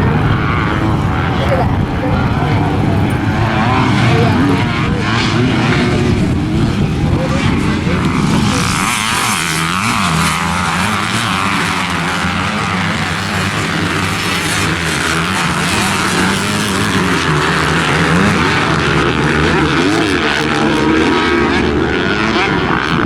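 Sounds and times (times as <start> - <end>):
dirt bike engines revving: 0.0 - 23.0
steady rushing noise: 0.0 - 23.0.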